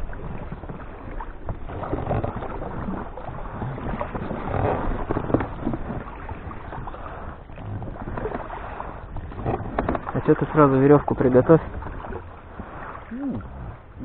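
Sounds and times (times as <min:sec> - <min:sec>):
pole scraping hull: 0:00.0 - 0:14.0
water splashing: 0:00.0 - 0:14.0
knocks on boat: 0:00.2 - 0:14.0.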